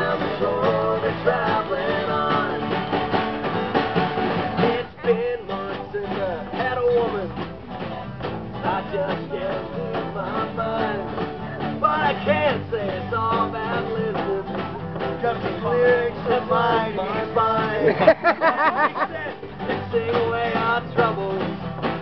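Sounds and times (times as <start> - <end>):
strummed guitars: 0.0 - 22.0.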